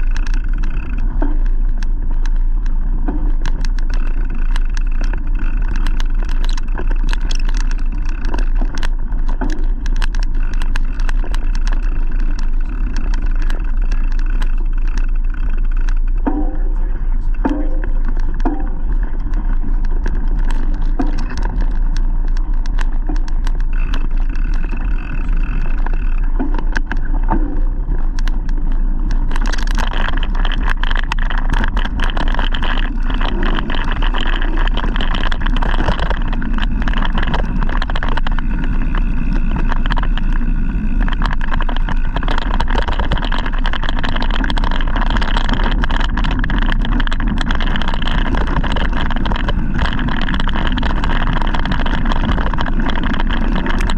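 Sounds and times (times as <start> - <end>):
bike rattles and knocks: 0.0 - 53.9
wind on microphone: 0.0 - 53.9.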